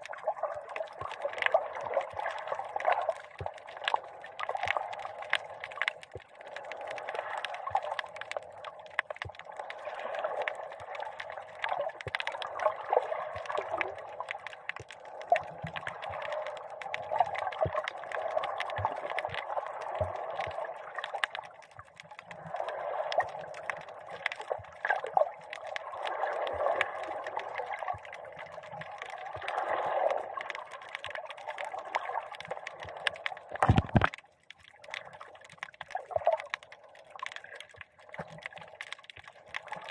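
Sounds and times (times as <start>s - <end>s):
muffled underwater sloshing: 0.0s - 39.9s
small scattered clicks: 0.0s - 39.9s.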